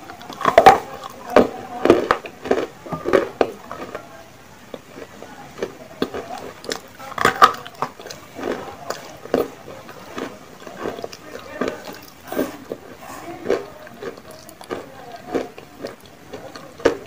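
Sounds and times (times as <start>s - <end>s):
chewing and crunching: 0.0s - 17.0s.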